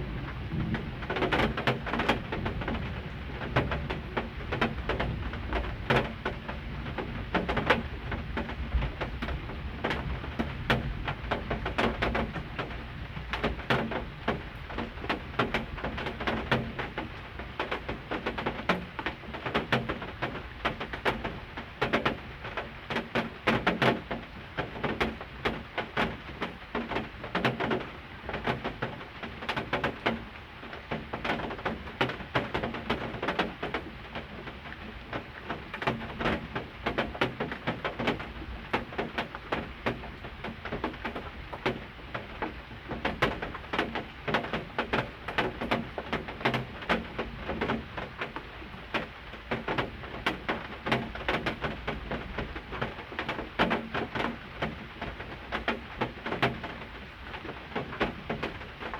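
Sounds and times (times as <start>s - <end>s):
rain drops tapping hard surface: 0.0s - 58.9s.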